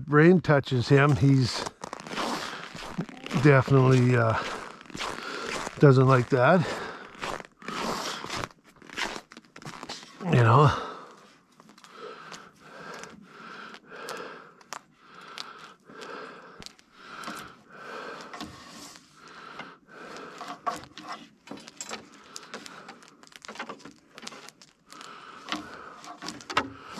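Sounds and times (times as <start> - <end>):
horses chewing and crunching: 0.9 - 19.2, 20.1 - 26.9.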